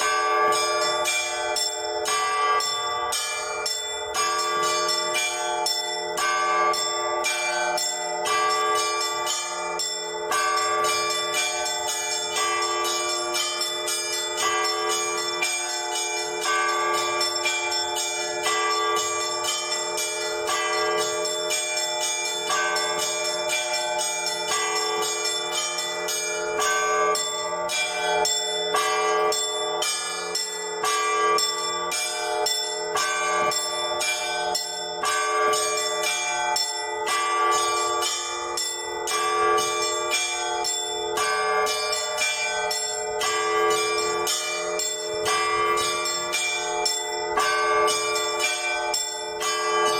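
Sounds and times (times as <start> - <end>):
large bells ringing: 0.0 - 49.9
middle bells pattern: 0.0 - 49.9
small church bells striking: 0.0 - 49.9.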